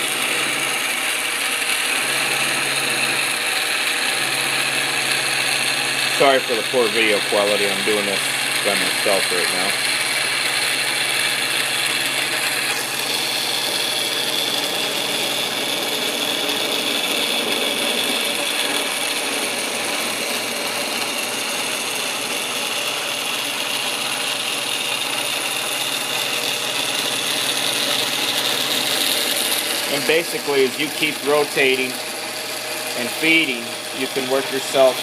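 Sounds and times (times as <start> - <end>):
milling machine cutting metal: 0.0 - 35.0.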